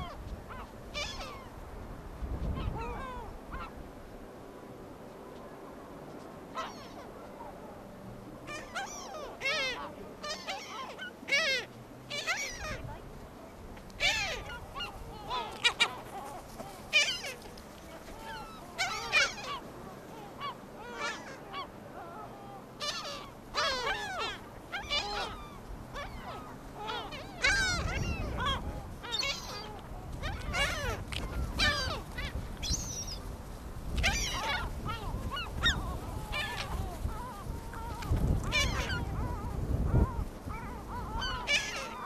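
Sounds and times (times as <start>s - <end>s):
gulls calling: 0.0s - 42.0s.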